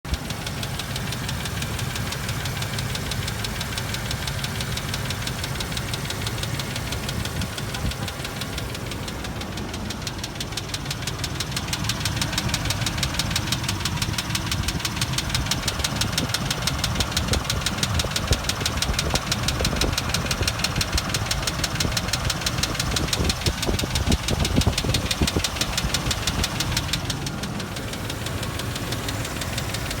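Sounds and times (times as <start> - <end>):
car engine idling with ticking: 0.0 - 30.0.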